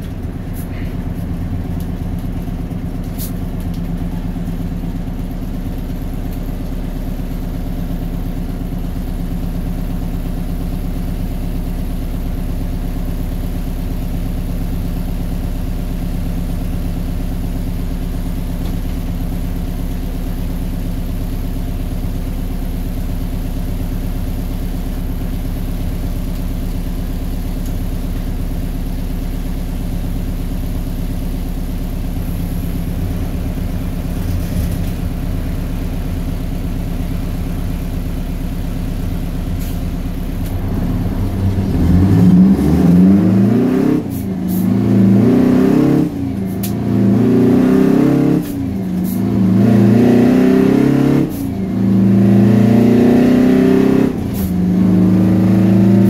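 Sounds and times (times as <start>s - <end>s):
diesel engine idling: 0.0s - 53.2s.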